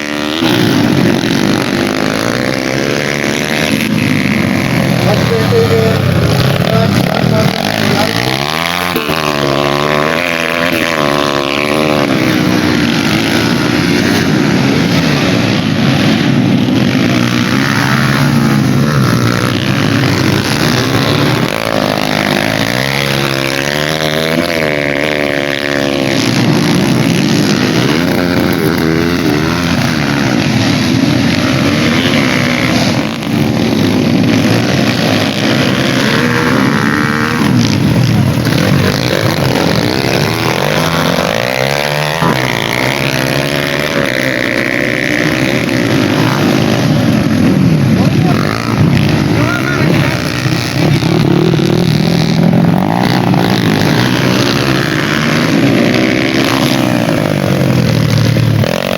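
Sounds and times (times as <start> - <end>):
dirt bike engines running hard: 0.0 - 58.9
dirt bike revving through gears: 0.0 - 58.9.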